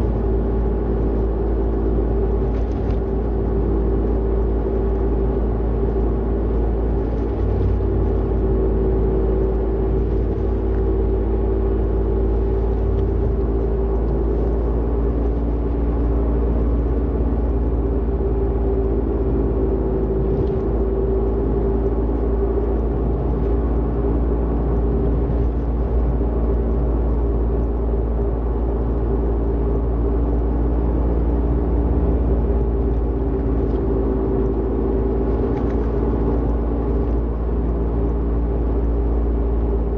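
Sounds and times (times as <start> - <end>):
wheel bearing droning hum: 0.0 - 39.9.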